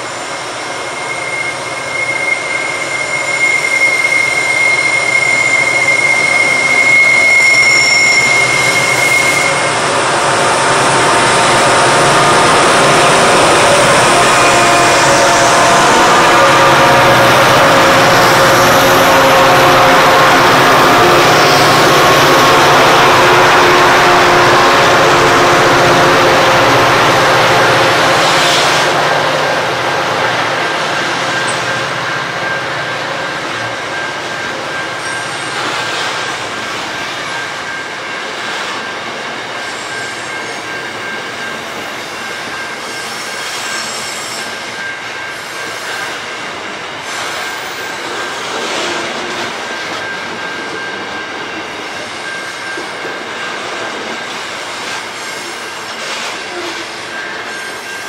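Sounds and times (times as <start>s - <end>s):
diesel locomotive engine droning: 0.0s - 58.0s
high-pitched wheel squeal: 0.0s - 58.0s.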